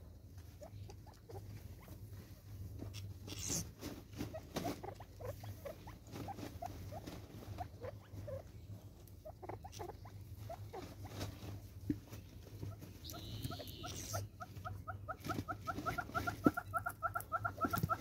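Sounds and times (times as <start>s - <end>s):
birds chirping softly: 0.0s - 18.0s
faint low hum: 0.0s - 18.0s.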